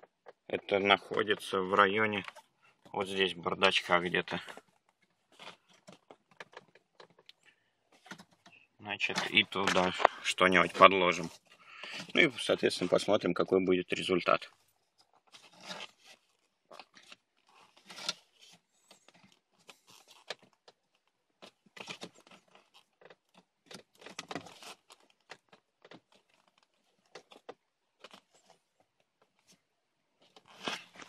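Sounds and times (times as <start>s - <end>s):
plastic parts rustling and scraping: 0.0s - 13.2s, 14.0s - 31.0s.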